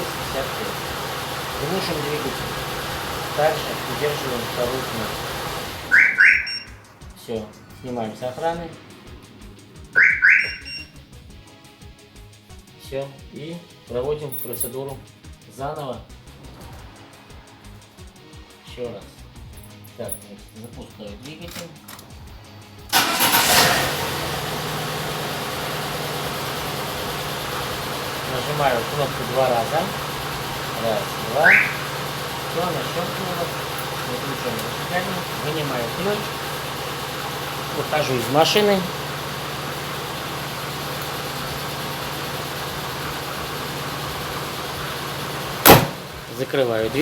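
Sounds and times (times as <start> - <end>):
car engine starting and idling: 0.0 - 11.6, 16.1 - 18.3, 21.4 - 47.0.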